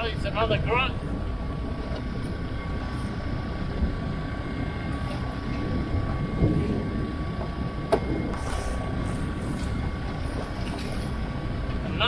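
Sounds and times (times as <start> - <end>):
rough water around boat: 0.0 - 12.0
wind rumbling: 0.0 - 12.0.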